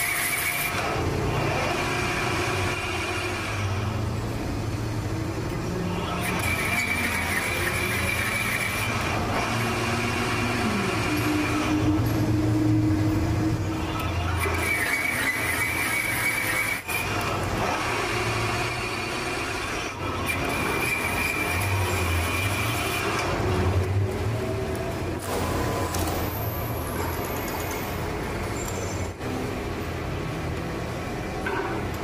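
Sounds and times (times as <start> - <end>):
lathe hum with high whine: 0.0 - 32.0.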